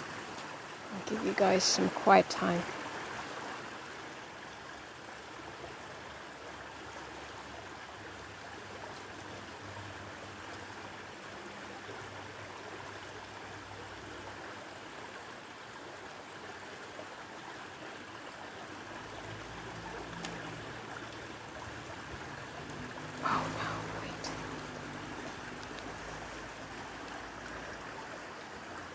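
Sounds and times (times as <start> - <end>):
flowing water rushing: 0.0 - 28.9.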